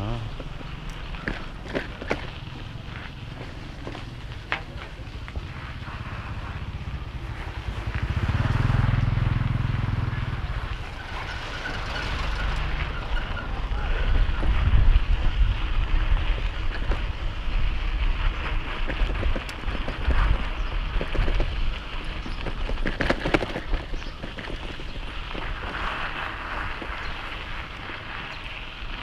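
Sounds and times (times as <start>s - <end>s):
wind buffeting microphone: 5.1s - 29.0s.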